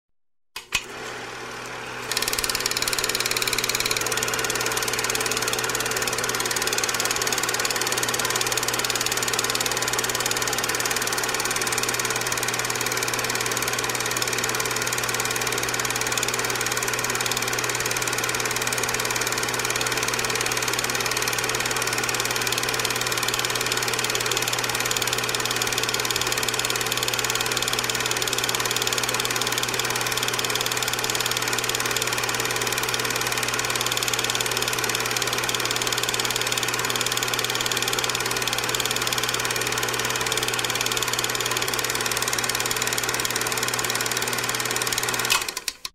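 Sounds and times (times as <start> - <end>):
film clattering through projector: 0.6 - 45.9
film projector motor whirring: 0.6 - 45.9.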